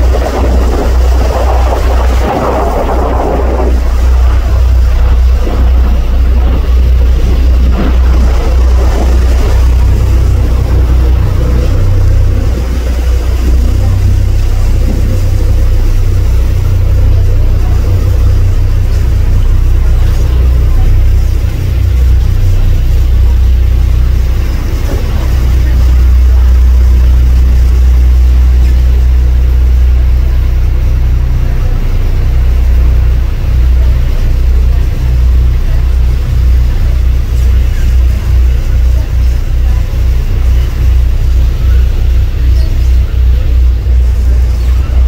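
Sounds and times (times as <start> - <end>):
boat engine rumbling: 0.0 - 45.0.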